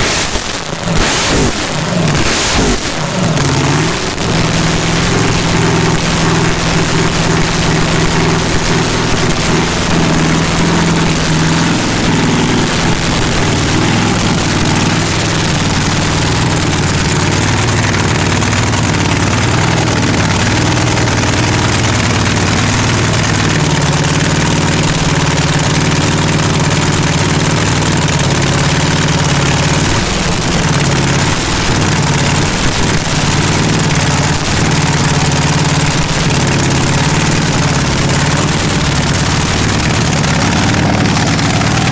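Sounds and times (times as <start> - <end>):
loud race car engine idling: 0.0 - 41.9.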